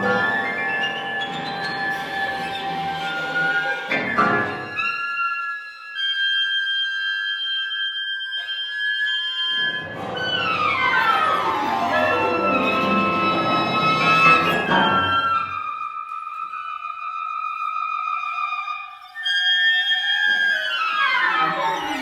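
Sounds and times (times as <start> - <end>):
chamber music ensemble: 0.0 - 5.2, 9.5 - 22.0.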